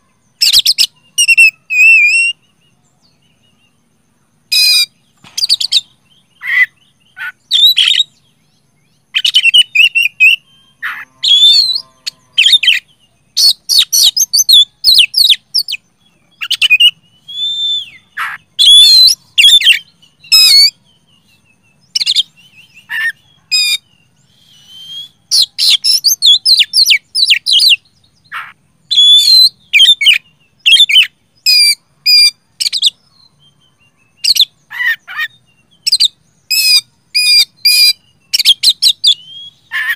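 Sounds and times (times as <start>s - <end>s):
bird singing whistles and chatter: 0.0s - 2.5s, 9.1s - 39.9s.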